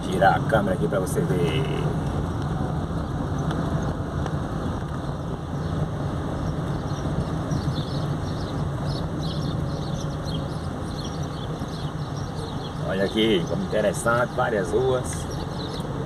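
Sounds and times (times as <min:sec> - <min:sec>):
car engine hum: 0:00.0 - 0:16.0
road and tyre noise: 0:00.0 - 0:16.0.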